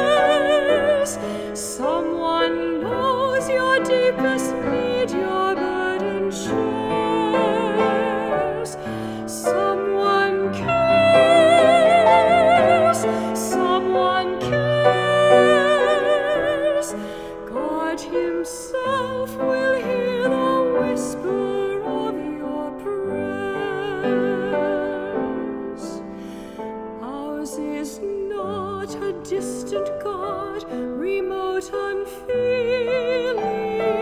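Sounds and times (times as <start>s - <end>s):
woman singing with vibrato: 0.0s - 26.1s, 27.0s - 34.0s
grand piano: 0.0s - 34.0s.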